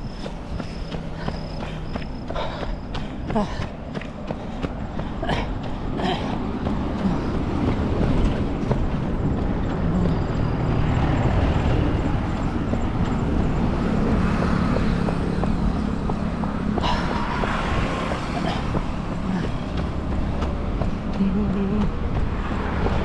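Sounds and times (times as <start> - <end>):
motor vehicles passing: 0.0 - 23.0.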